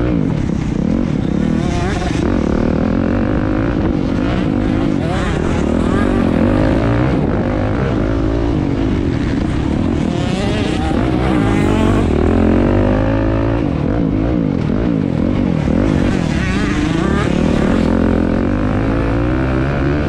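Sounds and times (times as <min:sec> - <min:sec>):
motocross engines revving: 0:00.0 - 0:20.0.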